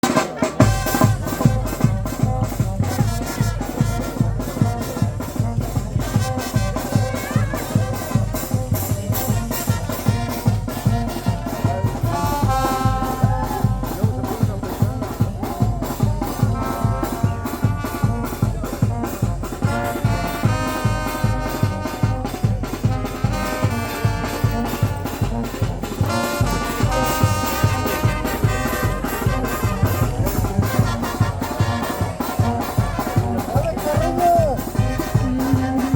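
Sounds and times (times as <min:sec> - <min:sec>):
brass band playing carnival music: 0:00.0 - 0:35.9
fast drum beat: 0:00.0 - 0:35.9.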